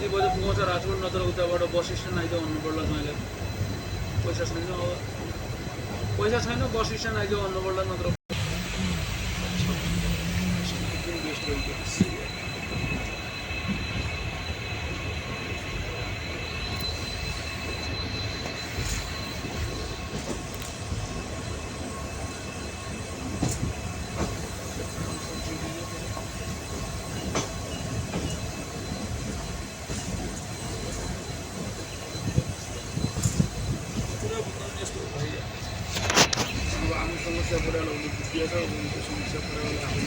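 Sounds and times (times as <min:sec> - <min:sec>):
high whine: 0:00.0 - 0:40.0
train wheels rumbling on track: 0:00.0 - 0:40.0.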